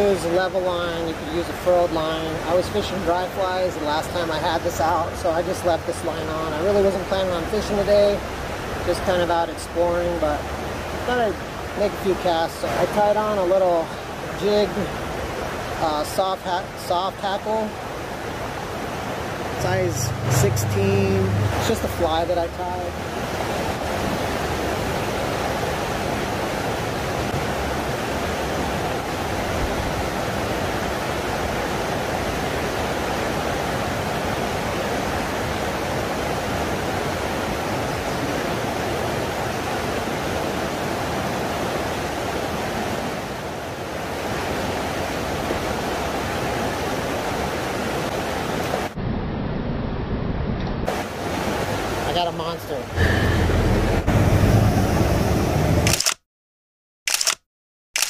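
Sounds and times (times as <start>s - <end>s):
river rushing over rocks: 0.0s - 49.0s, 50.9s - 53.6s.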